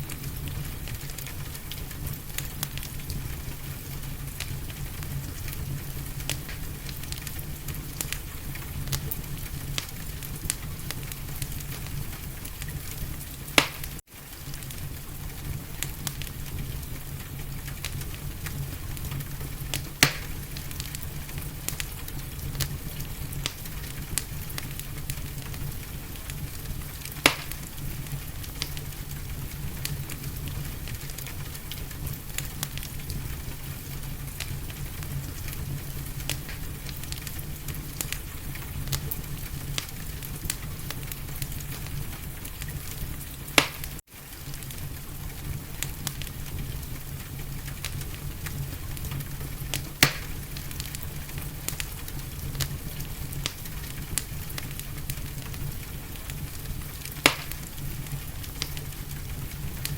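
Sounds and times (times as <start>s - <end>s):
steady low rumble: 0.0s - 43.6s, 44.4s - 59.9s
wood fire crackling and popping: 0.0s - 59.9s.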